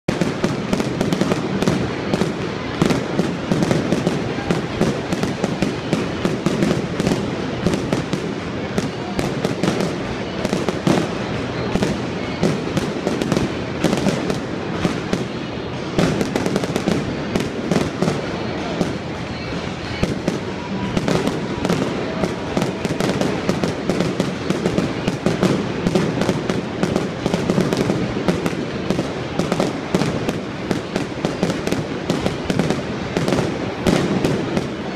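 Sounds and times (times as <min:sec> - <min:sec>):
fireworks popping and crackling: 0:00.0 - 0:34.9.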